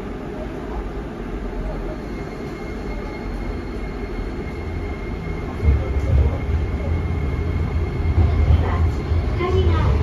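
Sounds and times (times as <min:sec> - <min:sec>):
high-pitched inverter whine: 0:00.0 - 0:10.0
subway car rumble: 0:00.0 - 0:10.0.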